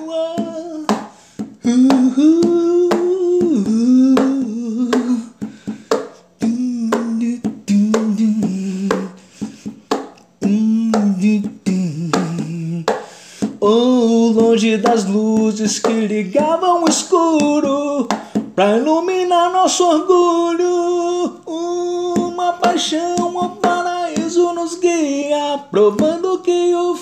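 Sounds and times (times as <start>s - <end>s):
person singing unaccompanied: 0.0s - 27.0s.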